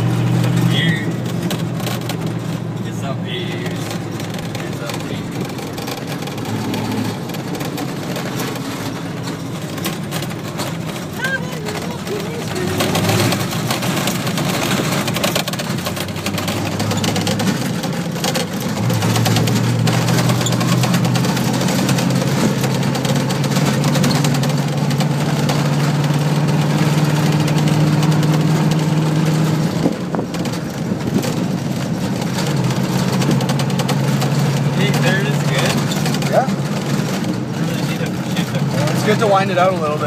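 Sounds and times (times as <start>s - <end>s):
truck engine pulling: 0.0s - 40.0s
tyre rumble and road noise: 0.0s - 40.0s.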